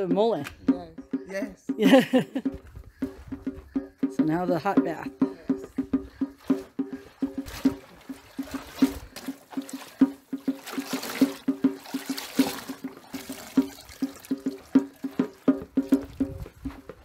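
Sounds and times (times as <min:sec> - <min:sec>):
background music with knocking beat: 0:00.0 - 0:17.0
water splashing and trickling: 0:02.8 - 0:17.0.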